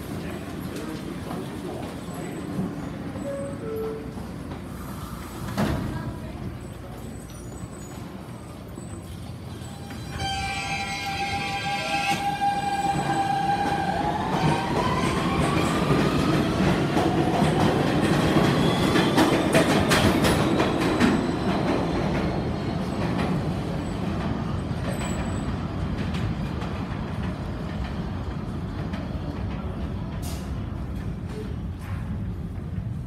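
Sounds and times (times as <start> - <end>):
subway traction motors whining: 0.0 - 33.0.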